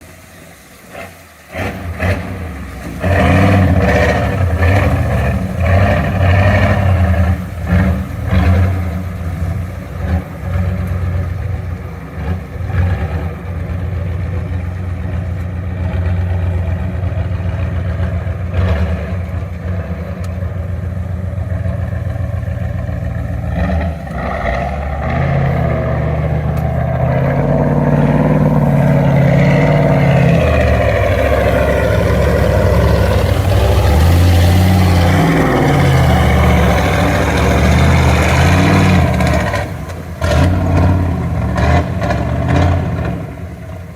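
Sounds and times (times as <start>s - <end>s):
truck engine revving hard: 0.8s - 43.9s.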